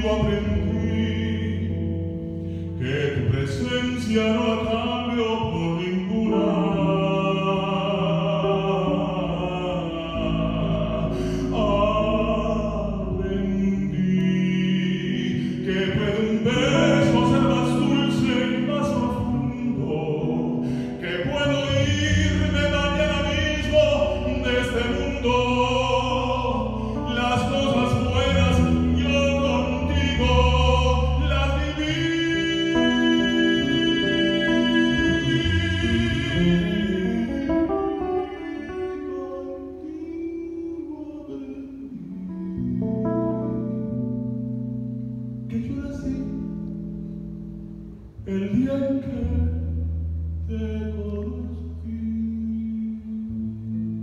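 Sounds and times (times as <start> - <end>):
man singing: 0.0 - 43.8, 45.5 - 46.7, 48.2 - 54.0
bass: 0.0 - 54.0
held guitar chords: 0.0 - 54.0.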